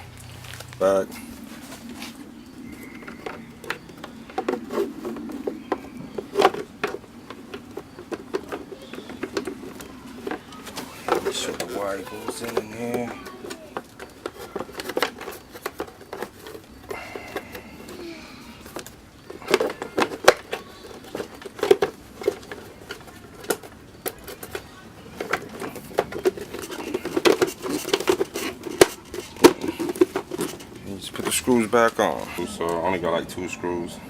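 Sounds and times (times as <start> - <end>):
plastic parts clicking and rattling: 2.6 - 33.2.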